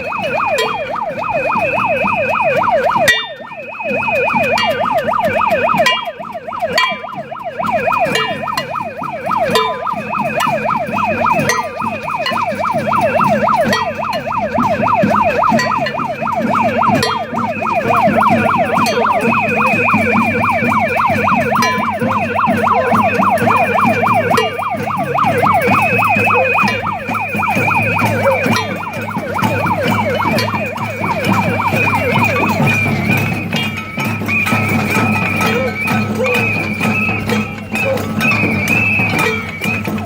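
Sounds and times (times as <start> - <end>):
crowd of protesters: 0.0 - 40.0
electronic siren warbling: 0.0 - 40.0
steady high tone: 0.0 - 40.0.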